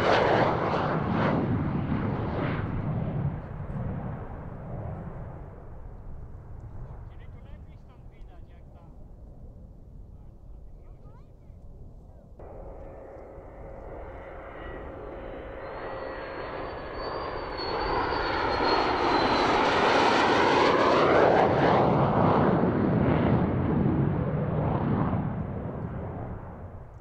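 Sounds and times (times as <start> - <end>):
jet engine flying past: 0.0 - 10.8, 11.6 - 27.0.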